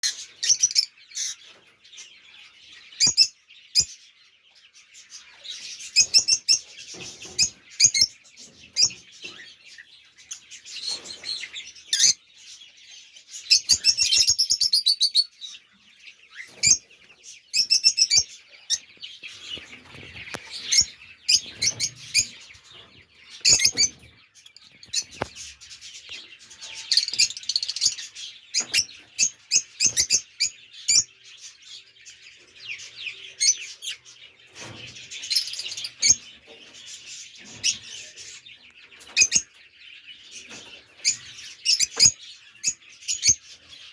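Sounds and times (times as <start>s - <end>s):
baby birds chirping: 0.0s - 43.9s
soft bird chatter: 0.0s - 43.9s.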